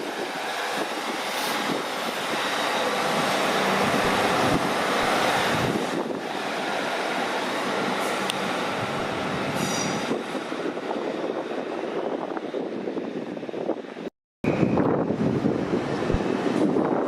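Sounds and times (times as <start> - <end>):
wind on microphone: 0.0 - 7.0, 7.7 - 17.0
train rushing past: 0.0 - 17.0.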